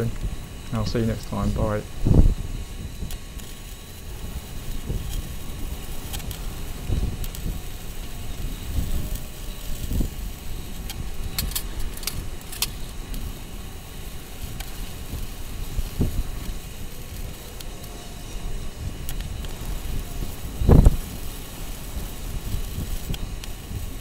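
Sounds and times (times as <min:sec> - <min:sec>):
welding arc crackling and sizzling: 0:00.0 - 0:24.0.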